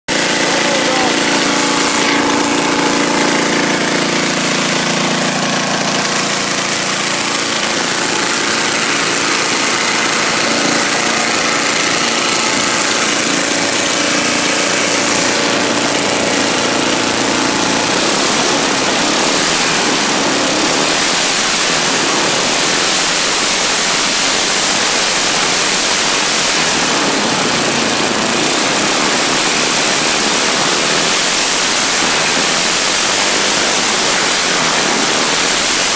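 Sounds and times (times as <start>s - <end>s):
mower engine running: 0.1s - 35.9s.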